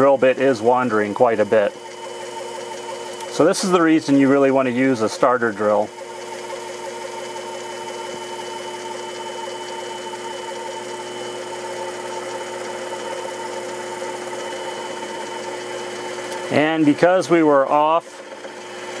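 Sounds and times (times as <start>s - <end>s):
lathe drilling into metal: 0.0s - 19.0s.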